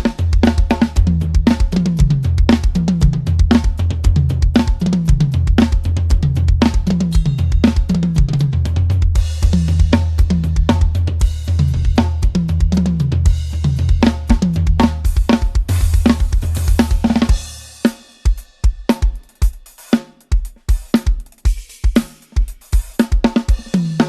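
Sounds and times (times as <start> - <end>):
drum kit playing: 0.0 - 24.0.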